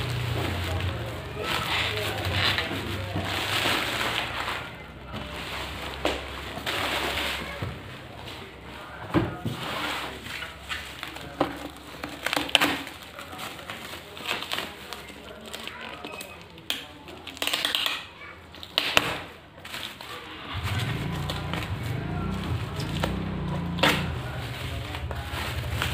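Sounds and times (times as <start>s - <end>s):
bubble wrap crinkling: 0.0s - 8.6s, 10.0s - 20.3s, 21.0s - 25.9s.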